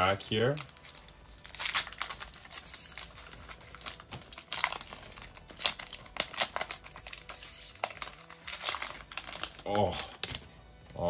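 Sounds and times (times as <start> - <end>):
foil wrapper crinkling: 0.0 - 10.5.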